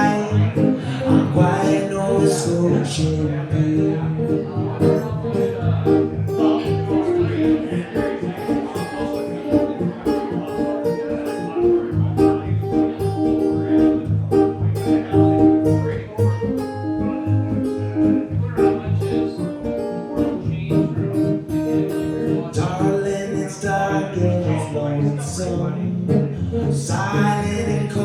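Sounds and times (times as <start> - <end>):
acoustic guitar picking: 0.0 - 28.0.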